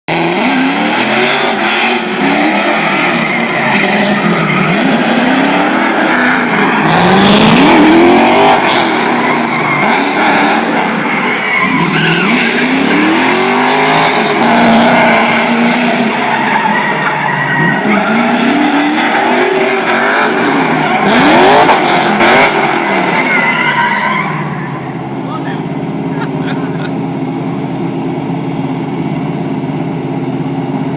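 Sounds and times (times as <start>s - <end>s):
car engine revving: 0.1s - 30.9s
tire squeal: 0.3s - 25.6s.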